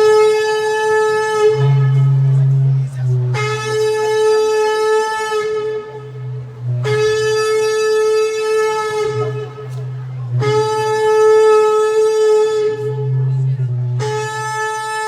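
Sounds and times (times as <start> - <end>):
shofar blasts: 0.0 - 15.0.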